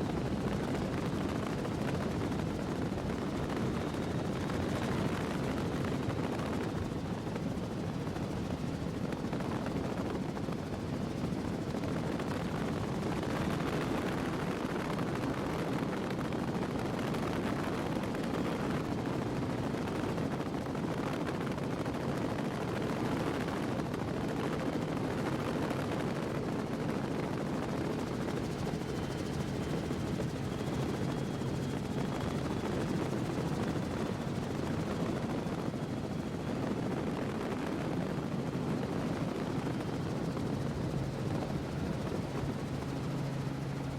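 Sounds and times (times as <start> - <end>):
rushing wind and water: 0.0 - 43.9.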